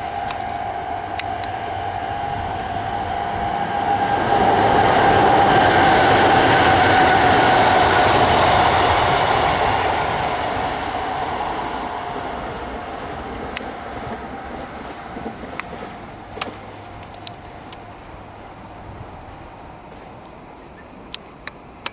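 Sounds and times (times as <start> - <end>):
train wheels clattering on rails: 0.0 - 20.4.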